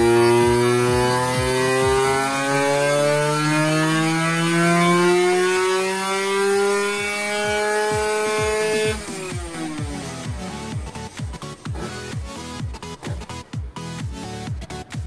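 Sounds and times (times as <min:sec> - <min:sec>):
two-stroke engine revving: 0:00.0 - 0:14.5.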